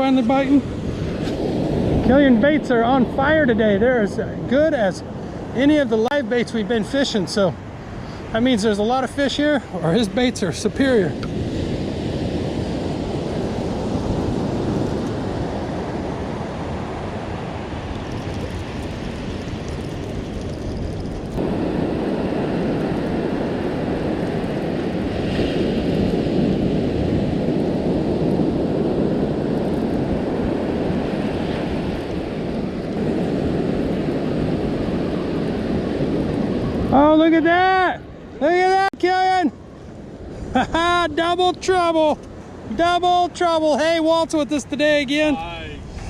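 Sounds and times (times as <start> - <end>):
surf breaking on beach: 0.0 - 46.0
wind rumbling on microphone: 0.0 - 46.0.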